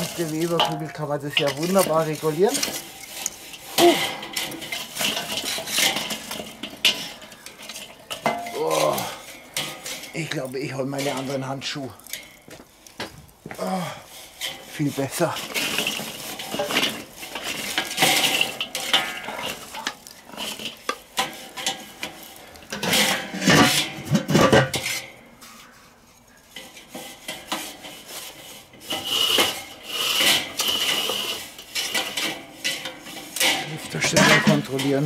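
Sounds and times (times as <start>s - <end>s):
grill lid clattering: 0.0s - 12.6s, 14.3s - 25.6s, 26.6s - 35.0s
charcoal clinking and scraping: 0.0s - 35.0s.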